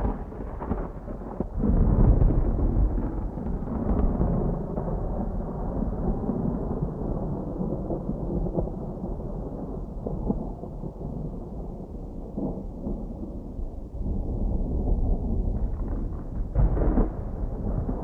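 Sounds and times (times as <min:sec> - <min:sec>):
distant thunder rumbling: 0:00.0 - 0:18.0.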